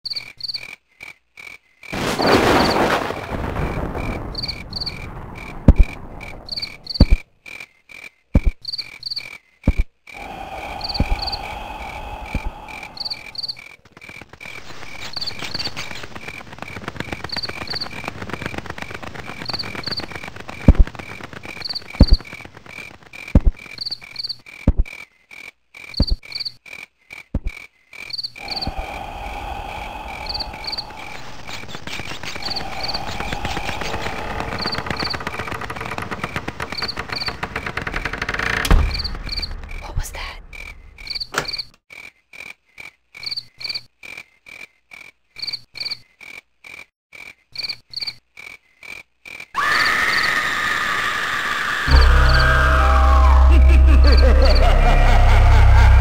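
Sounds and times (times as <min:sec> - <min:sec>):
frogs croaking: 0:00.1 - 0:50.4, 0:51.7 - 0:56.0
insects chirping: 0:00.1 - 0:50.4, 0:51.8 - 0:56.0.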